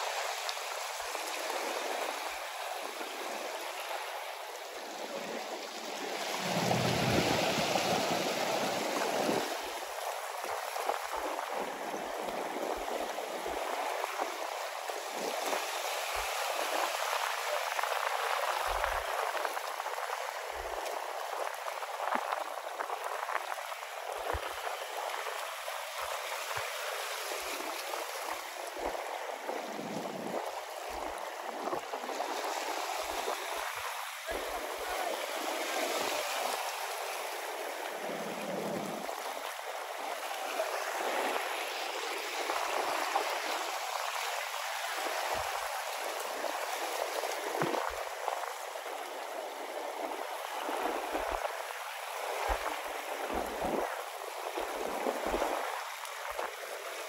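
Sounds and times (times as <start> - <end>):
sea waves washing ashore: 0.0 - 57.0.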